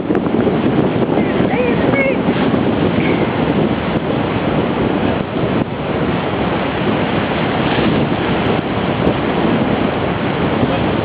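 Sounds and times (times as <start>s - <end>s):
water rushing past boat: 0.0s - 11.0s
wind buffeting microphone: 0.0s - 11.0s.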